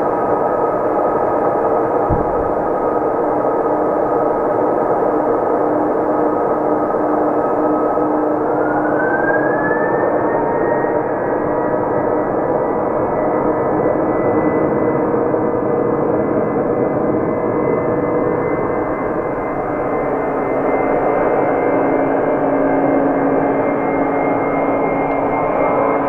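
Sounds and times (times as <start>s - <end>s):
jet engines spooling up: 0.0s - 26.0s.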